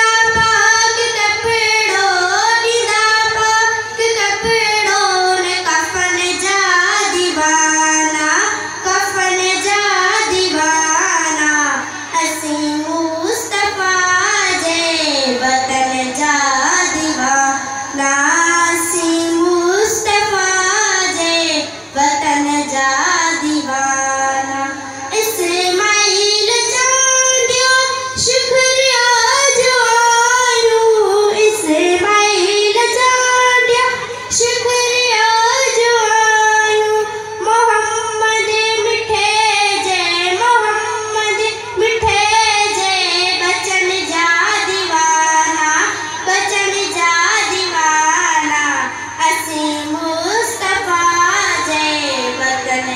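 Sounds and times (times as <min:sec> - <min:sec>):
girl singing unaccompanied: 0:00.0 - 0:52.9.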